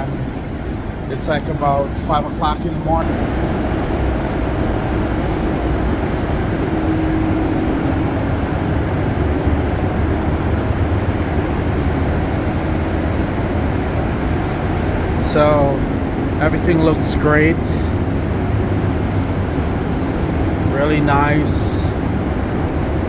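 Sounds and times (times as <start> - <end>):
ventilation fan humming: 0.0 - 23.0.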